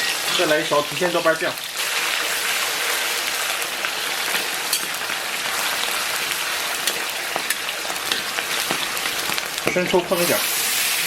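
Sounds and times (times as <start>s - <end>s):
hot oil sizzling in a wok: 0.0s - 11.0s
sharp crackles and pops: 1.4s - 11.0s.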